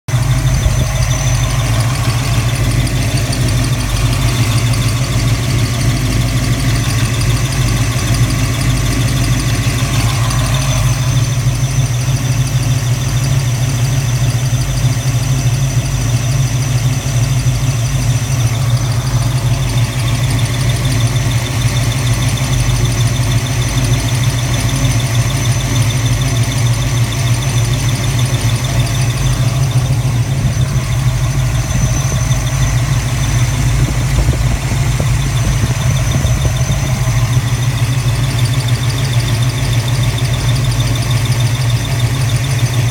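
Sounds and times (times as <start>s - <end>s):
car engine idling: 0.0s - 42.9s
high-pitched squeal: 0.1s - 42.9s.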